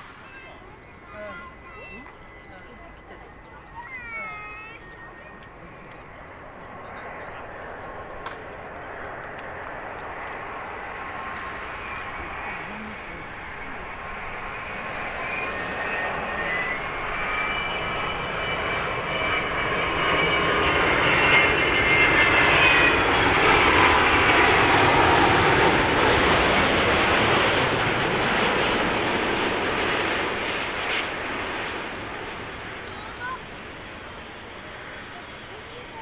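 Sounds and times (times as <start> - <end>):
high engine whine: 0.0 - 36.0
jet airliner roar: 0.0 - 36.0.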